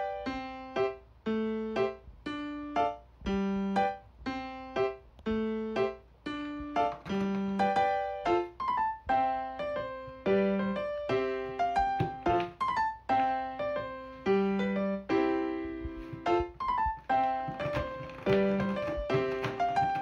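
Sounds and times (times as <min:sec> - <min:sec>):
keyboard melody: 0:00.0 - 0:20.0.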